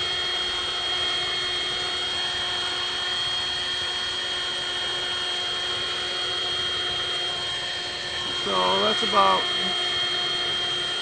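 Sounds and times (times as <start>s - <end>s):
handheld vacuum whining: 0.0s - 11.0s.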